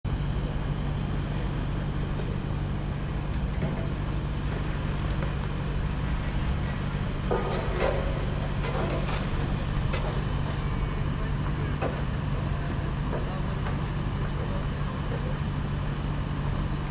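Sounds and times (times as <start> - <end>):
low hum: 0.1 - 16.9
traffic rumble: 0.1 - 16.9.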